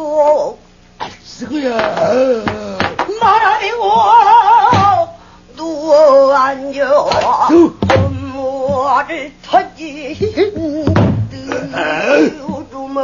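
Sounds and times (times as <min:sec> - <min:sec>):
woman singing with vibrato: 0:01.4 - 0:13.0.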